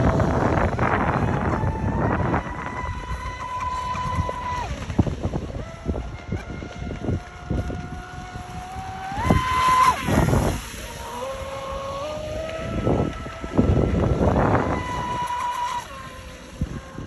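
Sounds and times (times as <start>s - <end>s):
electric motor whining: 0.0s - 17.0s
wind buffeting microphone: 0.0s - 17.0s.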